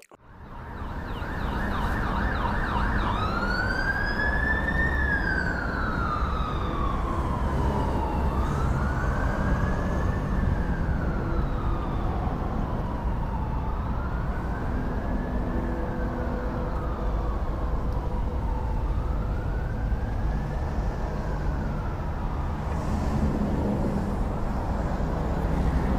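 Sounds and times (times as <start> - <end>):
city traffic rumble: 0.0 - 25.9
emergency vehicle siren: 0.2 - 25.9.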